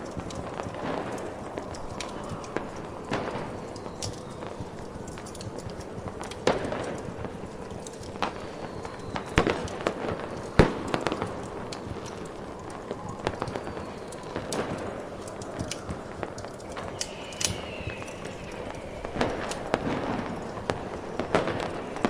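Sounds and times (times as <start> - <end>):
fireworks falling whistles: 0.0 - 22.0
fireworks popping: 0.0 - 22.0
wind and fire hiss: 0.0 - 22.0.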